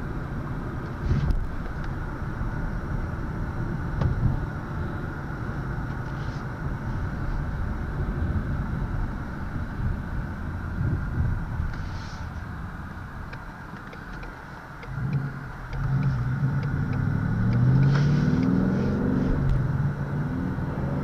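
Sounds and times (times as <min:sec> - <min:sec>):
car engine low rumble: 0:00.0 - 0:21.0
road noise: 0:00.0 - 0:21.0.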